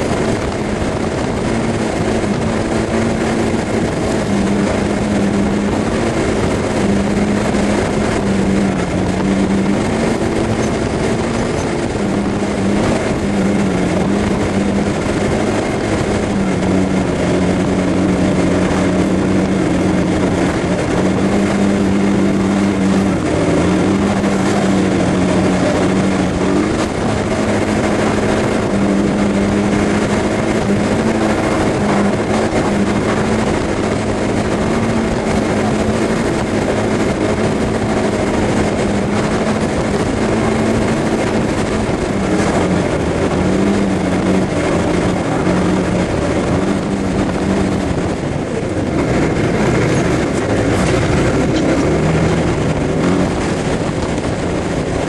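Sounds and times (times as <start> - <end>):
scooter engine droning: 0.0 - 55.0
wind rushing: 0.0 - 55.0.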